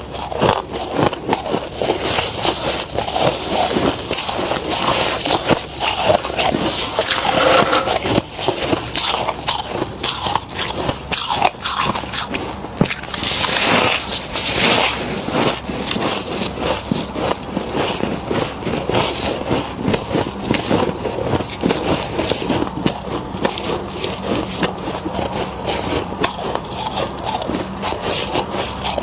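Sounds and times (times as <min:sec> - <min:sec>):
chewing crunchy frost: 0:00.0 - 0:29.0.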